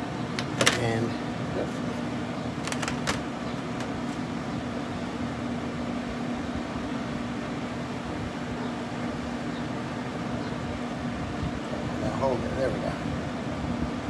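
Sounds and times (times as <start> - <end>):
smoker fan humming: 0.0 - 14.0.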